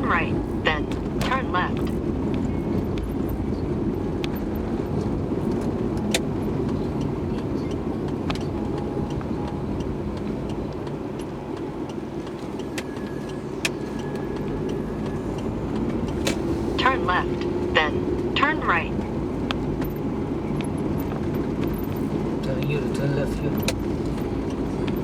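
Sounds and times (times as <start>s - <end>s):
road and engine noise in car: 0.0s - 25.0s.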